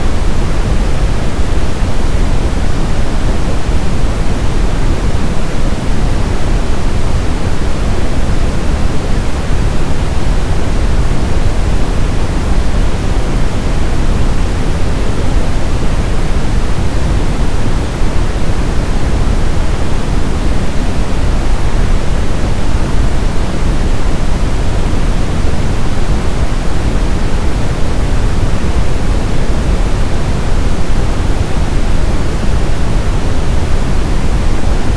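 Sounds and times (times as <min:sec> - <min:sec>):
brown noise: 0:00.0 - 0:34.9.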